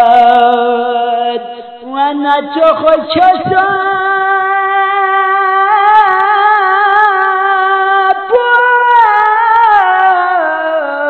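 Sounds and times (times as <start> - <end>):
person singing: 0.0 - 11.0.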